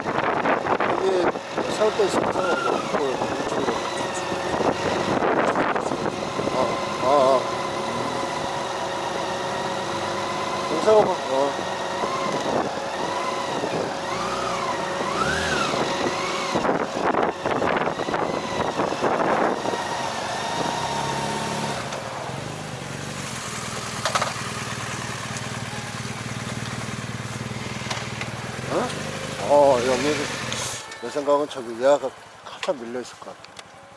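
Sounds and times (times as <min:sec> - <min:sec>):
motorcycle engine idling: 0:00.0 - 0:20.3, 0:21.9 - 0:32.8.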